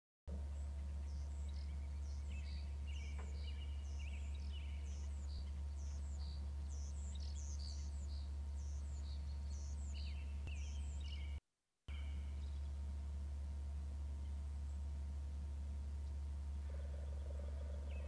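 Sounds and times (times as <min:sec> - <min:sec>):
small birds chirping: 0:00.3 - 0:18.0
steady low hum: 0:00.3 - 0:18.0
bird trill: 0:00.4 - 0:12.9, 0:15.9 - 0:18.0.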